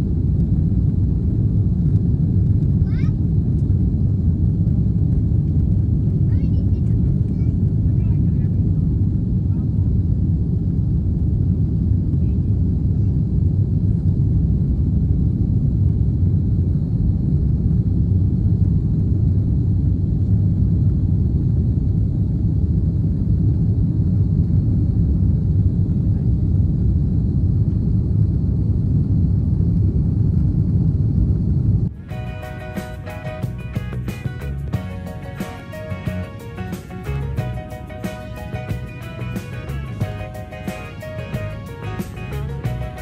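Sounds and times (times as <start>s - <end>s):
airliner engines rumbling in cabin: 0.0s - 43.0s.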